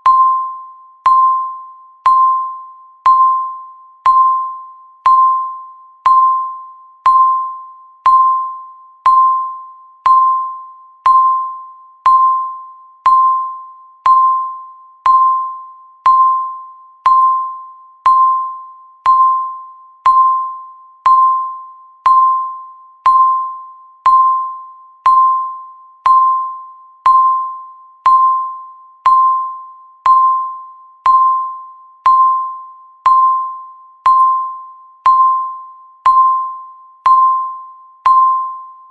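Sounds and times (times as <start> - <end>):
timer ticking: 2.0 - 11.5, 12.1 - 26.5, 27.1 - 29.5, 30.1 - 38.5.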